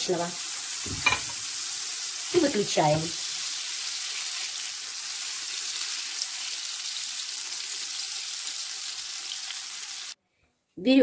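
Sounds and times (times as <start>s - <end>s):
butter sizzling in a frying pan: 0.0s - 10.2s.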